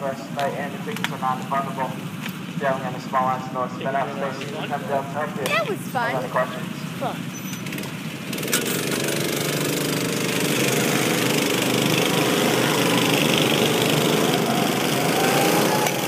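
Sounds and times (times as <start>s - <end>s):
go-kart engines running: 0.0s - 16.0s.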